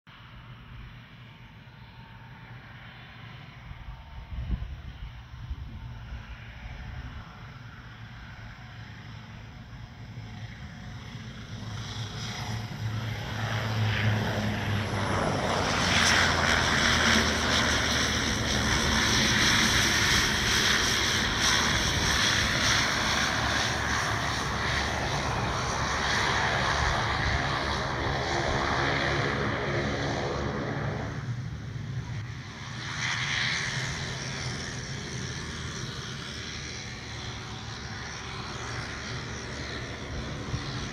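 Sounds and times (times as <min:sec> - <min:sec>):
turboprop aircraft engine: 0:00.1 - 0:40.9.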